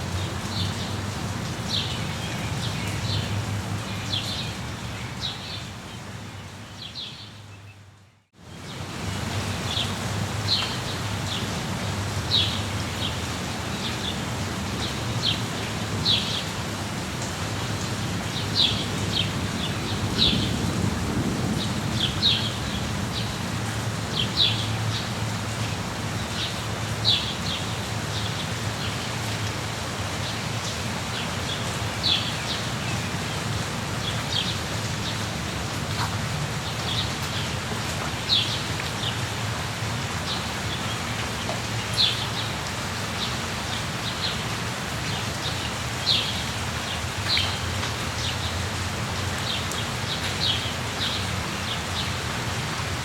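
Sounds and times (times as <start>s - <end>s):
rain hissing: 8.4s - 53.0s.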